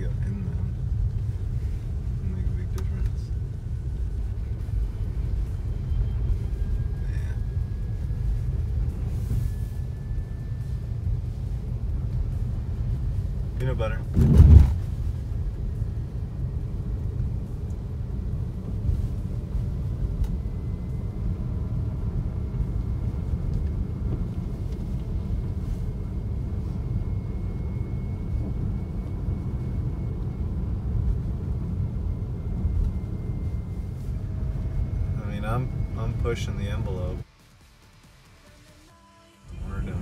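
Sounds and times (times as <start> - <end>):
tyres rumbling on snowy road: 0.0 - 37.3.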